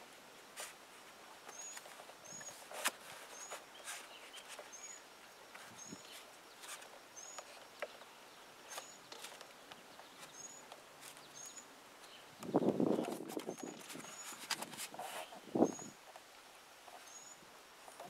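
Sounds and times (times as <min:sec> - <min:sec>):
bird chirping: 0:01.5 - 0:14.6, 0:15.2 - 0:16.0, 0:16.8 - 0:17.4.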